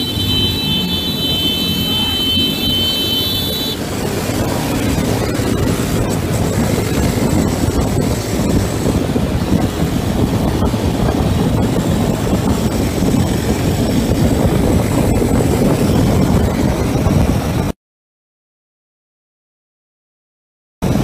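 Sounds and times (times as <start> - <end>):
street traffic noise: 0.0 - 17.7
wind rumble on microphone: 0.0 - 17.7.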